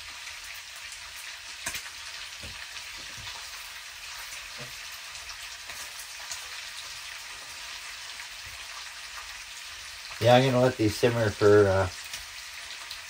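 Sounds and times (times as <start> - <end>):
bacon and sausages sizzling: 0.0 - 13.0.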